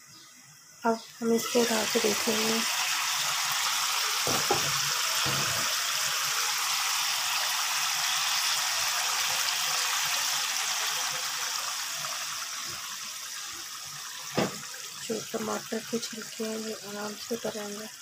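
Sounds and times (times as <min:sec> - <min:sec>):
food sizzling in oil: 0:00.8 - 0:18.0.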